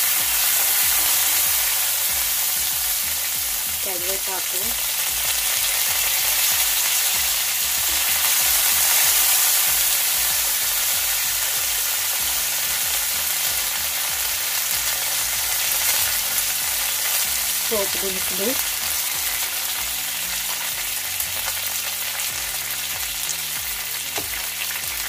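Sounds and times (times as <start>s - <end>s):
hot oil sizzling in a frying pan: 0.0s - 25.0s.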